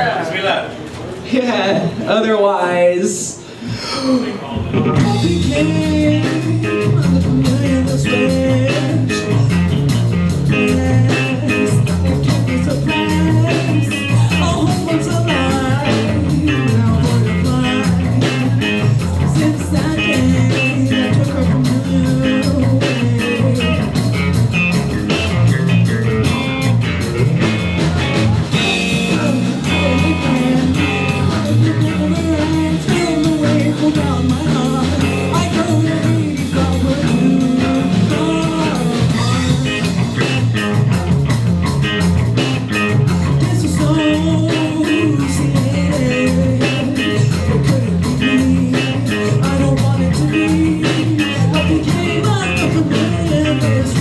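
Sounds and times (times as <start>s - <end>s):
live rock band playing: 4.5s - 54.0s.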